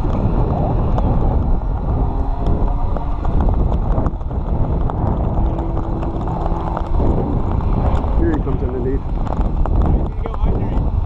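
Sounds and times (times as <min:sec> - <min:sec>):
faint steady drone: 0:00.0 - 0:11.0
wind buffeting microphone: 0:00.0 - 0:11.0.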